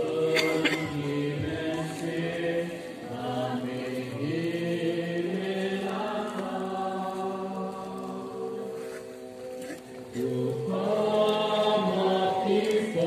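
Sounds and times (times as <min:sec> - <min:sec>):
voices singing a slow hymn: 0:00.0 - 0:13.0.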